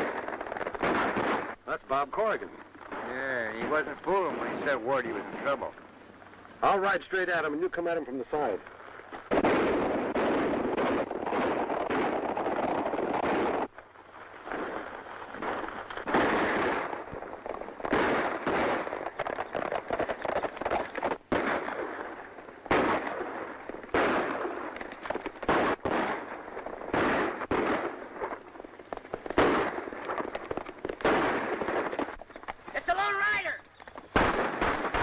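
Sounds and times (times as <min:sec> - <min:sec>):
echoing gunshots: 0:00.0 - 0:05.8, 0:09.3 - 0:13.8, 0:14.4 - 0:35.0.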